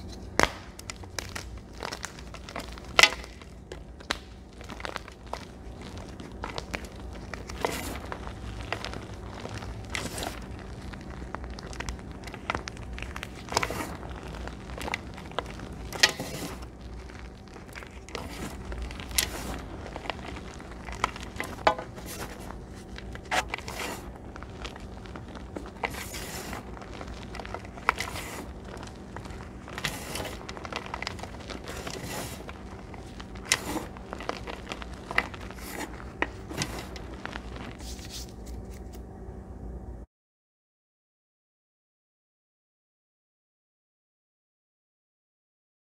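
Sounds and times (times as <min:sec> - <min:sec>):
chalk crunching and crumbling: 0:00.0 - 0:39.0.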